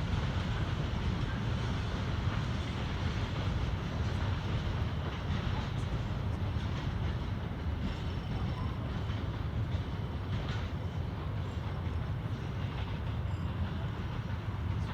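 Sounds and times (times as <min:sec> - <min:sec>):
train wheels rumbling on rails: 0:00.0 - 0:14.9
faint clacks of wagons: 0:00.1 - 0:14.9.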